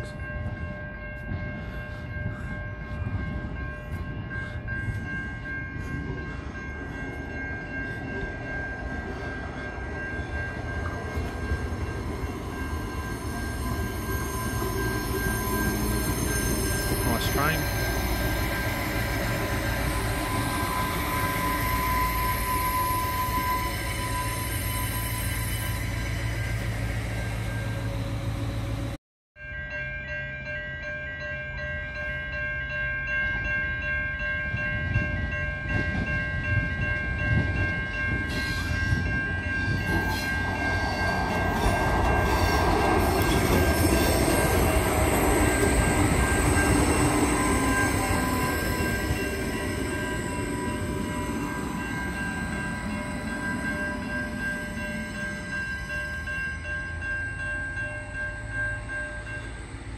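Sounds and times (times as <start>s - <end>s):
diesel railcar running: 0.0s - 59.9s
level crossing warning bells: 0.0s - 59.9s
railcar rumbling past: 0.0s - 59.9s.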